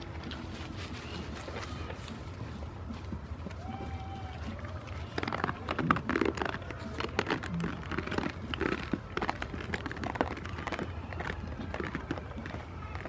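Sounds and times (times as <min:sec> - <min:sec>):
goats moving about: 0:00.0 - 0:13.0.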